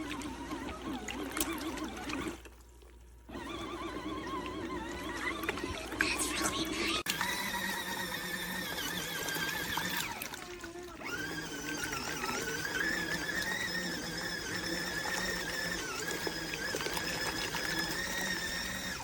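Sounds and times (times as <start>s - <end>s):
small electric motor whining: 3.3s - 19.0s.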